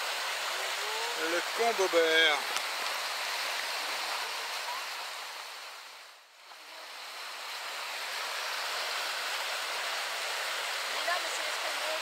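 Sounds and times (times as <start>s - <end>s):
brook rushing over rocks: 0.0s - 5.5s, 7.4s - 12.0s.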